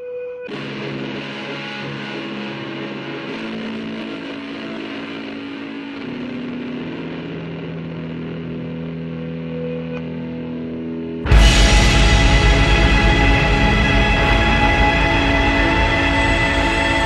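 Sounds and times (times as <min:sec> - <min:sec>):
distorted held chords: 0:00.5 - 0:17.0.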